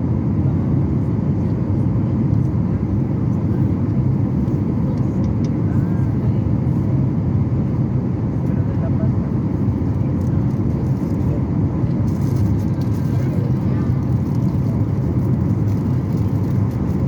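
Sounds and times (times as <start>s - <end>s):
airliner engine rumble and rushing air: 0.0s - 17.0s.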